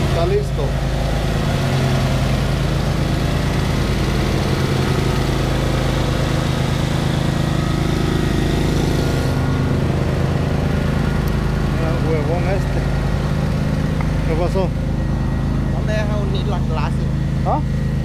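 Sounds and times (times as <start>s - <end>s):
lawn mower engine idling: 0.0s - 18.0s.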